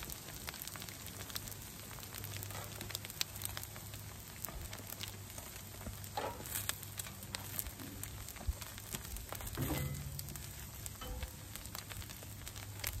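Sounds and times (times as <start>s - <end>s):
eggs sizzling on a griddle: 0.0s - 13.0s.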